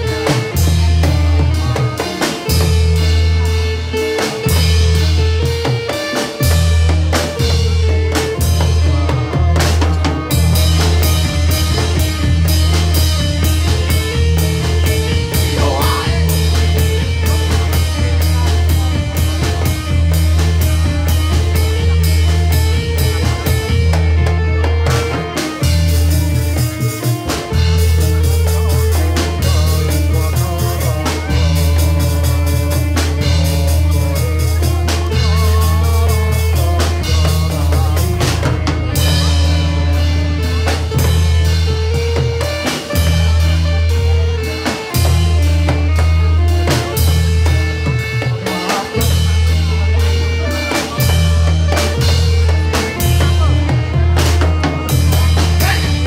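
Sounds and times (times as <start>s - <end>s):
live dance music with drums: 0.0s - 56.0s.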